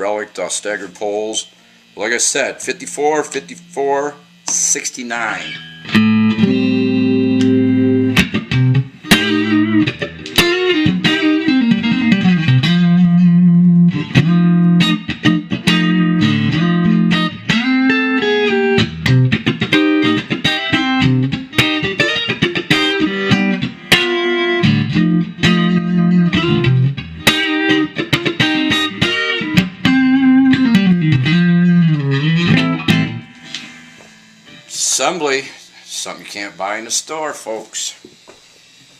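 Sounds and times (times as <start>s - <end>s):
electric guitar playing: 1.5s - 35.6s.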